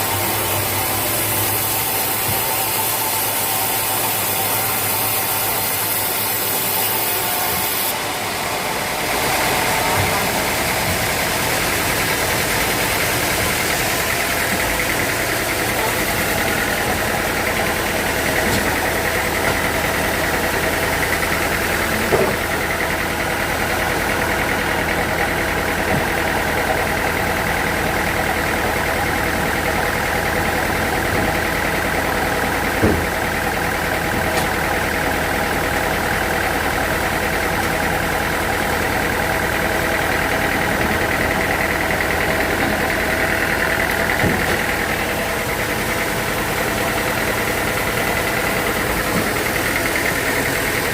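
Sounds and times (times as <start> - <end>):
sawmill machinery whining: 0.0 - 50.9.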